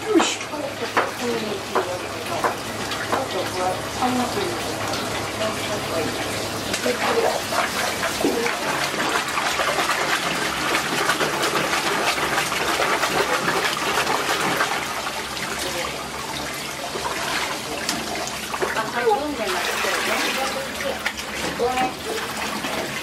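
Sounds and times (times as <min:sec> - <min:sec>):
water gushing and splashing: 0:00.0 - 0:23.0.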